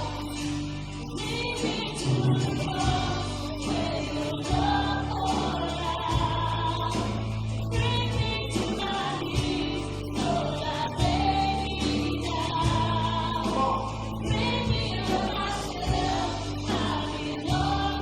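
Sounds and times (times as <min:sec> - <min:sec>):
group of singers: 0:00.0 - 0:18.0
instrumental backing with bass notes: 0:00.0 - 0:18.0.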